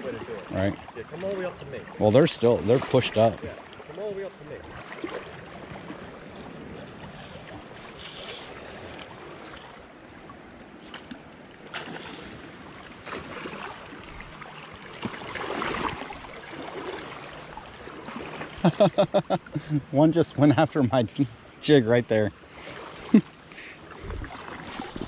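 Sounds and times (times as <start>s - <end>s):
flowing creek water: 0.0s - 25.0s.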